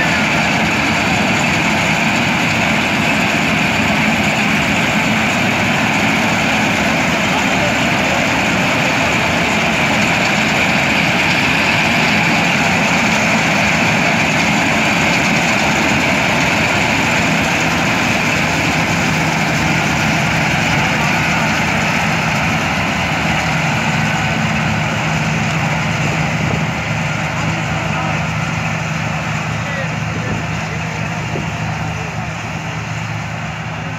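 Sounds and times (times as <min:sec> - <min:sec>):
combine harvester drone: 0:00.0 - 0:33.9.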